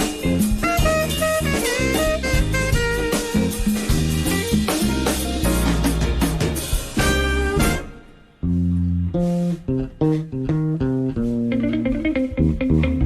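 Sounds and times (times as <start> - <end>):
instrumental band music with drums: 0.0 - 13.0
plucked bass and guitar notes: 0.0 - 13.0.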